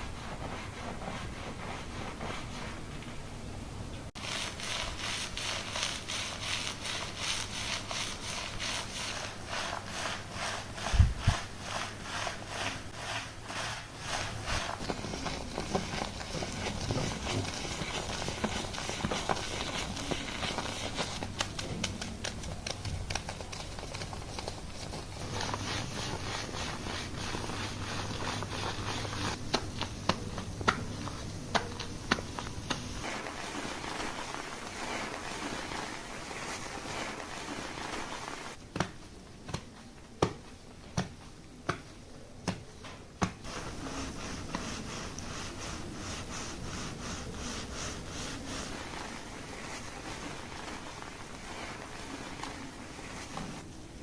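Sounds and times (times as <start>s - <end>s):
hands scrubbing lathered hair: 0.0s - 3.0s, 4.2s - 38.6s, 43.4s - 53.7s.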